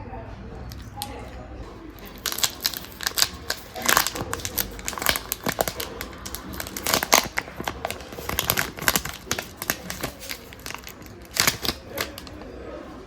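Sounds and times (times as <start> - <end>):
plastic wrapper crinkling: 0.7 - 12.6.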